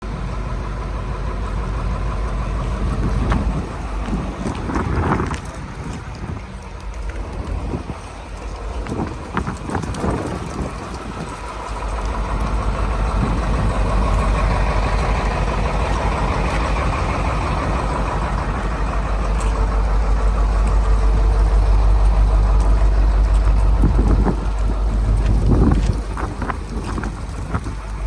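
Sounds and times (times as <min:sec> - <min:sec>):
truck diesel engine idling: 0:00.0 - 0:28.0.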